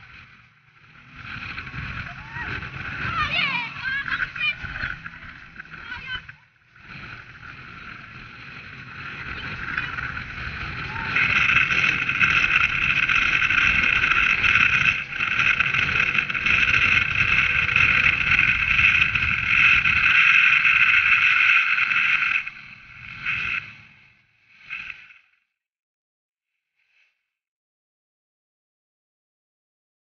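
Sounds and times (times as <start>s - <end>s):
rush of wind and water: 0.0s - 25.2s
motorboat engine whine: 0.0s - 25.4s.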